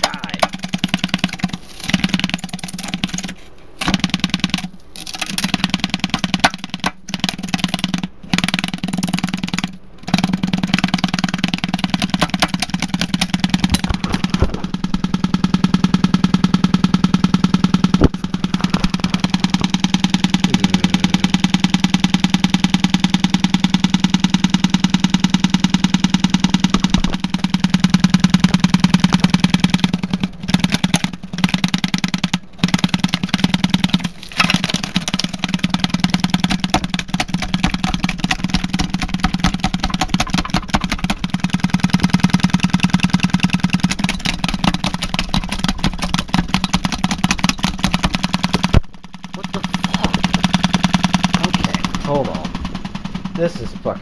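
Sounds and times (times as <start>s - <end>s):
distorted buzzing speaker with rattle: 0.0s - 54.0s.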